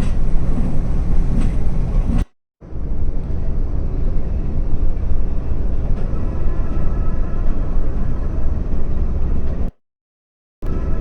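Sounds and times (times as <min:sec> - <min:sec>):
coach engine and road rumble: 0:00.0 - 0:09.8, 0:10.6 - 0:11.0.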